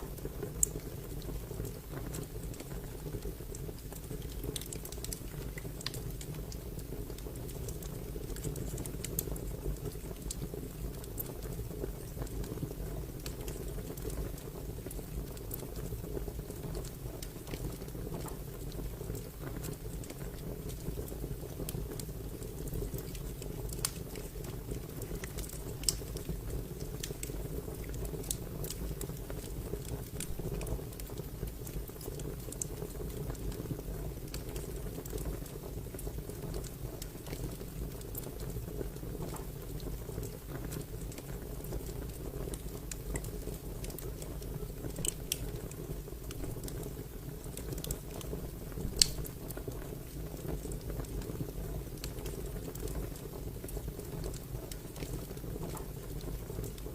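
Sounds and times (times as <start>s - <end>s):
fire popping and snapping: 0.0s - 56.9s
flames rumbling: 0.0s - 56.9s.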